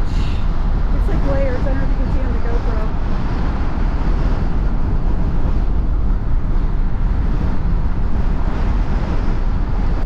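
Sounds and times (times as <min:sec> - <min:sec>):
storm wind on microphone: 0:00.0 - 0:10.0.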